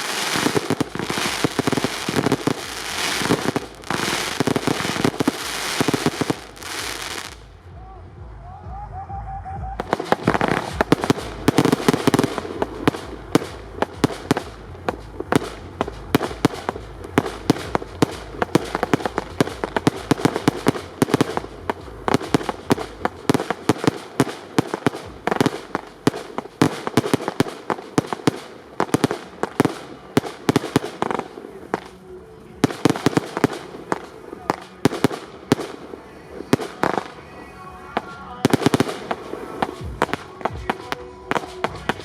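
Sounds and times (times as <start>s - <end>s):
fireworks crackle: 0.0s - 7.7s, 9.8s - 42.0s
fireworks bangs: 0.0s - 8.4s, 9.7s - 42.0s.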